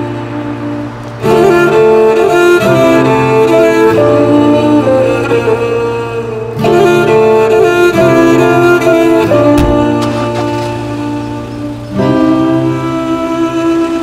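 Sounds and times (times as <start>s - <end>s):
sustained string chords: 0.0s - 14.0s.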